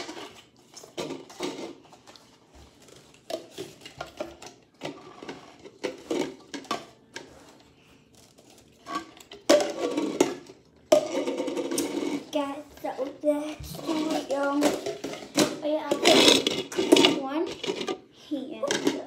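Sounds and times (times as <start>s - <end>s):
plastic cups clacking on countertop: 0.0s - 7.4s, 8.8s - 19.0s.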